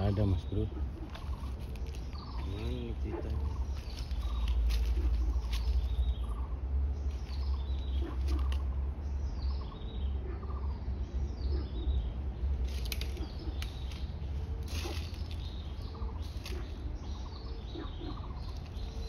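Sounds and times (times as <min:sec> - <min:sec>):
steady low rumble: 0:00.0 - 0:19.0
wild birds chirping: 0:00.0 - 0:19.0.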